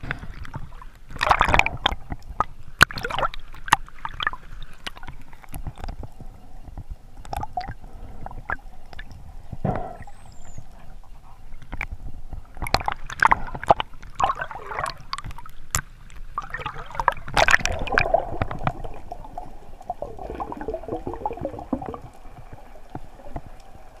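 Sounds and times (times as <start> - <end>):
water gurgling and bubbling: 0.0 - 5.8, 7.3 - 11.1, 12.5 - 15.5, 16.1 - 24.0.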